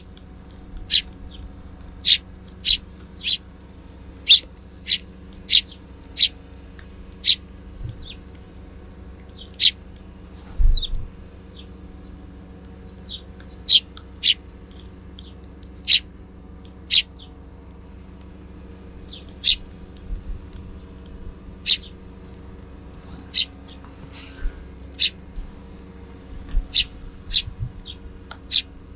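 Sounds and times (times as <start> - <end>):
sparrows chirping: 0.0 - 28.9
steady low hum: 0.0 - 28.9.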